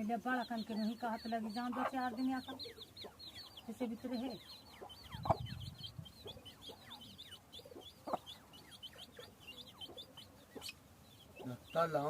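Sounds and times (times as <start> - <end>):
birds chirping: 0.0 - 12.0
lower bird calls: 0.0 - 12.0.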